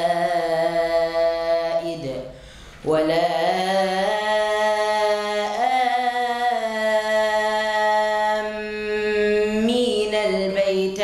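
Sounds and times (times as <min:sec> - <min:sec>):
boy reciting melodically: 0:00.0 - 0:11.0.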